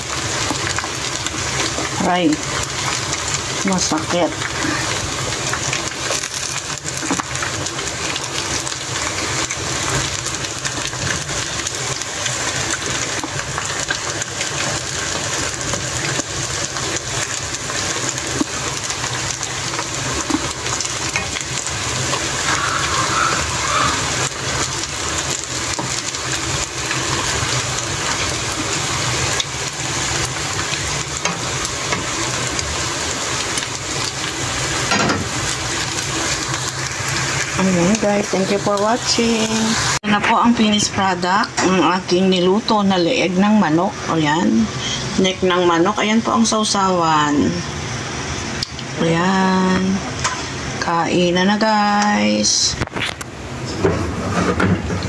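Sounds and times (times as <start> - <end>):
chicken deep-frying in oil: 0.0 - 55.0.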